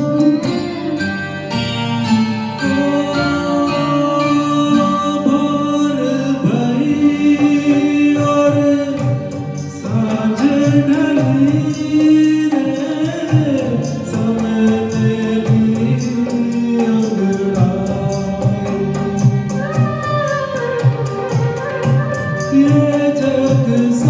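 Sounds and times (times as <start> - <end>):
instrumental accompaniment: 0.0 - 24.0
person singing: 2.4 - 24.0.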